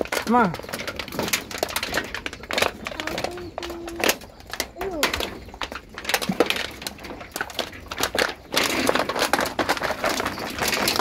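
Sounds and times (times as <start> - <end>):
dog chewing and crunching food: 0.0 - 11.0.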